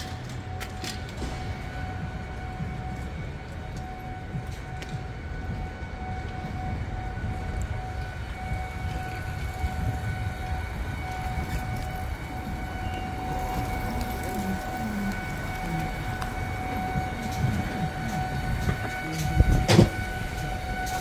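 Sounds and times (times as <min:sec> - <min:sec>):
low rumble: 0:00.0 - 0:20.8
high-pitched whine: 0:00.0 - 0:21.0.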